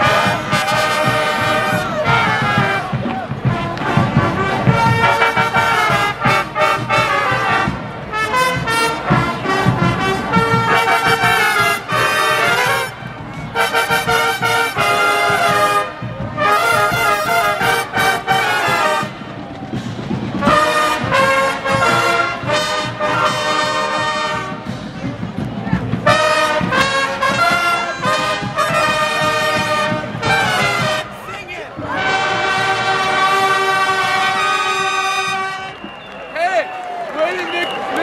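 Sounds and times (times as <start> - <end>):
trumpets playing brass tune: 0.0 - 38.0.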